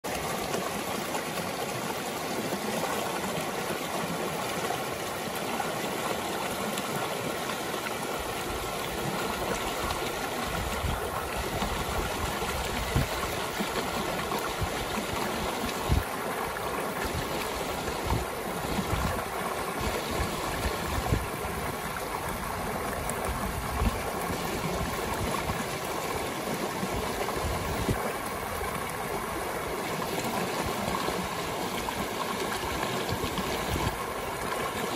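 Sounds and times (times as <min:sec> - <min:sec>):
stream rushing over rocks: 0:00.0 - 0:34.9.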